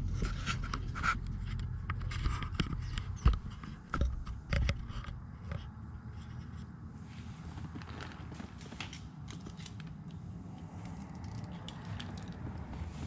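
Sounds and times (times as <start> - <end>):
handling clicks and rustles: 0.0 - 13.0.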